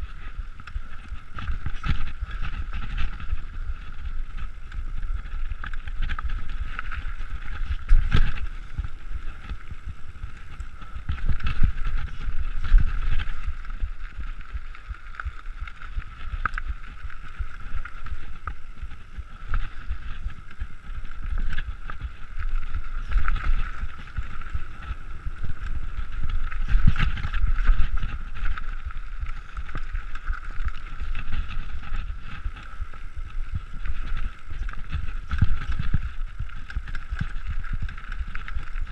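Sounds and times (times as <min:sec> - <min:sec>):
bike rattling and knocking: 0:00.0 - 0:38.9
wind buffeting the microphone: 0:00.0 - 0:38.9.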